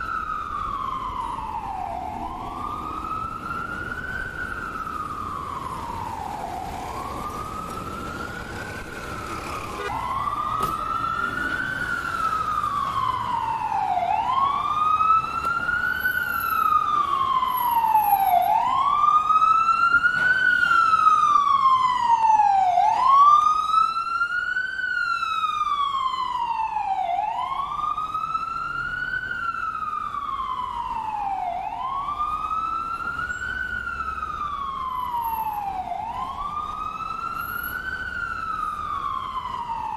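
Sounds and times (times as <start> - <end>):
ambulance siren wailing: 0.0 - 39.9.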